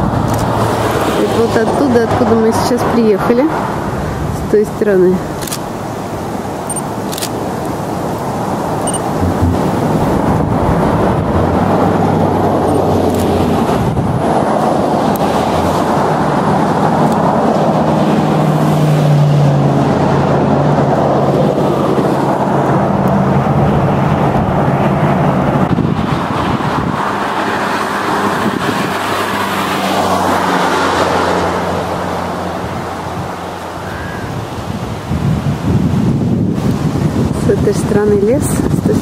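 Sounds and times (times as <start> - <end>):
low engine hum: 0.0 - 39.0
road and tyre noise: 0.0 - 39.0.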